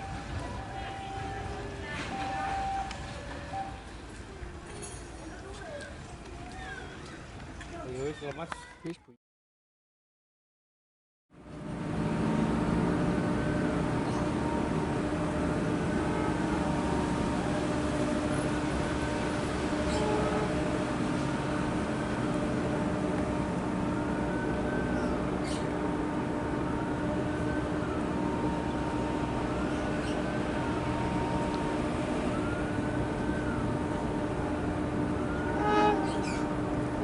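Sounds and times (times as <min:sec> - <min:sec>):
locomotive engine rumbling: 0:00.0 - 0:08.4, 0:11.4 - 0:37.0.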